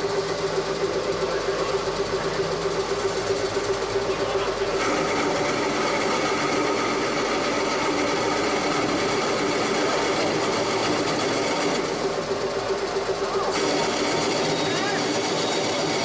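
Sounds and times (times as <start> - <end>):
lathe humming: 0.0 - 16.0.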